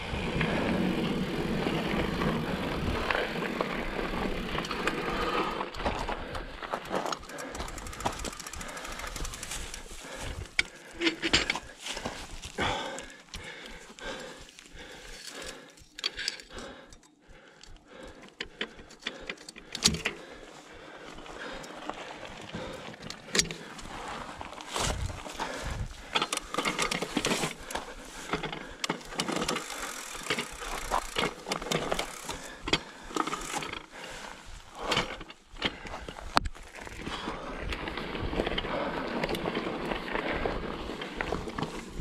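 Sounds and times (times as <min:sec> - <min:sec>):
bike tyres over stones: 0:00.0 - 0:16.7, 0:17.9 - 0:42.0
bike knocking and rattling: 0:00.0 - 0:42.0.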